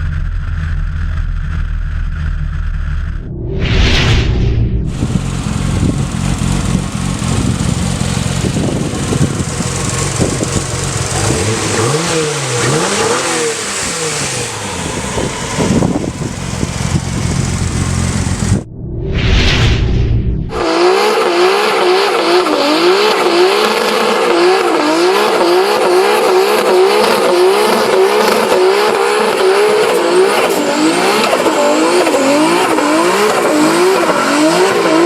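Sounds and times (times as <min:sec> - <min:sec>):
car engine revving: 0:00.0 - 0:19.1, 0:19.7 - 0:35.0.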